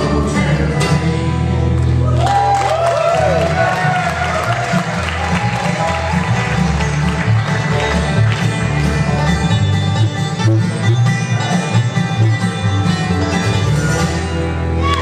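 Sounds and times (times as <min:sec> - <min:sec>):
banjo: 0:00.0 - 0:02.1, 0:03.4 - 0:15.0
mandolin: 0:00.0 - 0:02.2, 0:03.4 - 0:15.0
upright bass plucking: 0:00.0 - 0:02.5, 0:03.2 - 0:15.0
acoustic guitar: 0:00.0 - 0:15.0.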